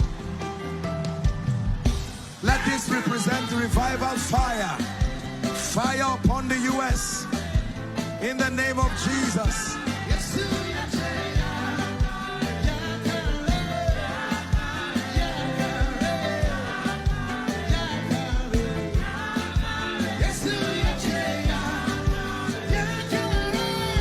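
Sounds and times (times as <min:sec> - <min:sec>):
worship band music: 0:00.0 - 0:24.0
steady drum beat: 0:01.2 - 0:24.0
person singing: 0:02.4 - 0:24.0.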